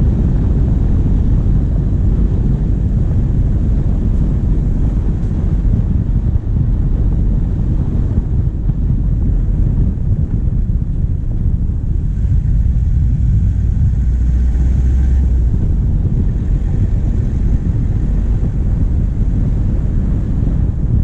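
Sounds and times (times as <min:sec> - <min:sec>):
diesel engine running: 0:00.0 - 0:21.0
wind rumbling on microphone: 0:00.0 - 0:21.0.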